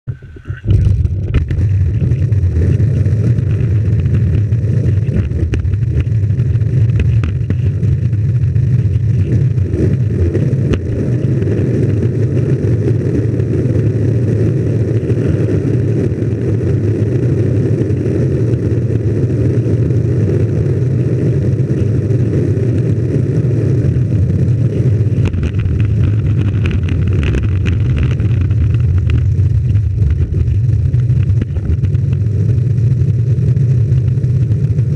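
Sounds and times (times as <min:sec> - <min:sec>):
longboard wheels rumbling on asphalt: 0:00.1 - 0:34.9.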